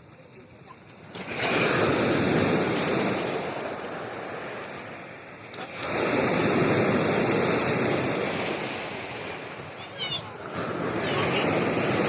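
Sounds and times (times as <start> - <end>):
waves breaking: 0.0 - 12.0.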